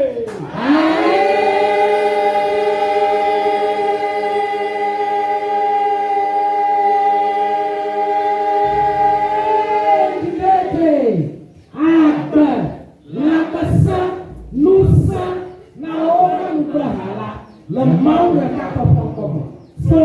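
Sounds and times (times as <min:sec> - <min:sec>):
choir holding a sung chord: 0:00.5 - 0:18.9.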